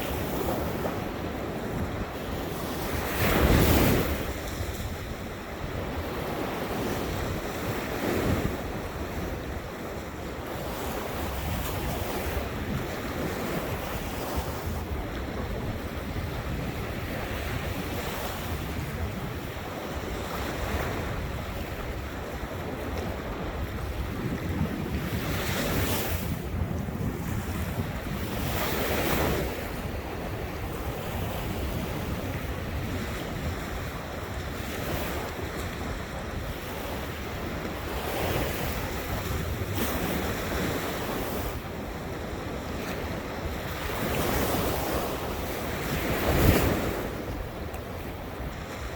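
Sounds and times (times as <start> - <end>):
waves breaking on shore: 0.0 - 48.9
wind buffeting microphone: 0.0 - 48.9.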